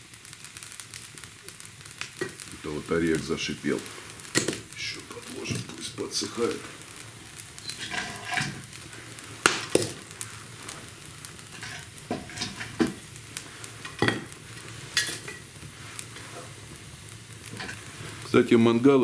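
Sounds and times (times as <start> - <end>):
fire crackling pops: 0.0 - 19.0
firewood hissing: 0.0 - 19.0.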